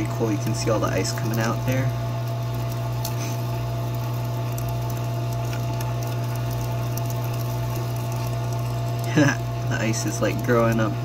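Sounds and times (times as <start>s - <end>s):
ice maker humming: 0.0s - 11.0s.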